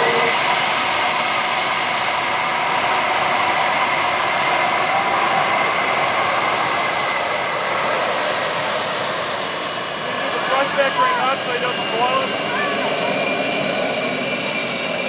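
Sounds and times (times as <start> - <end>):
jet engine whine and roar: 0.0 - 15.0.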